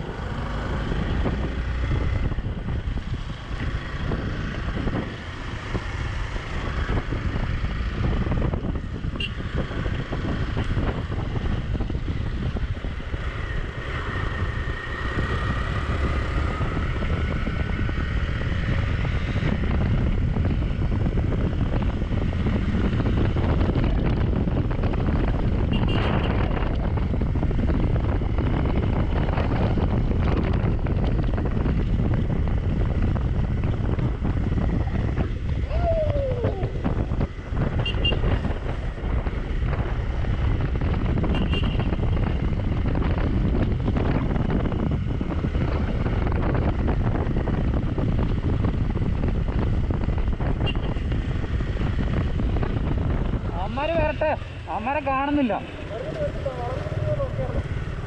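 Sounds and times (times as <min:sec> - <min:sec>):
motorcycle engine revving: 0:00.0 - 0:58.0
wind buffeting microphone: 0:00.0 - 0:58.0.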